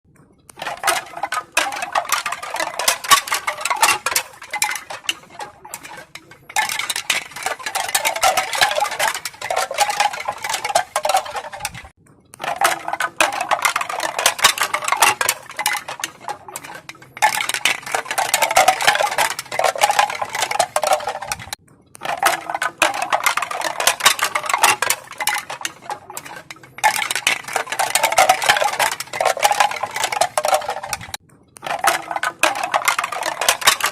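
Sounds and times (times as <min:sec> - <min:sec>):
bamboo pieces clattering: 0:00.5 - 0:33.9.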